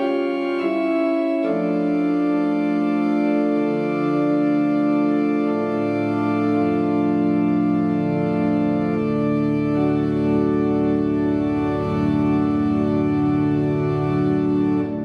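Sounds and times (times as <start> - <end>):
slow organ chords: 0.0 - 15.0.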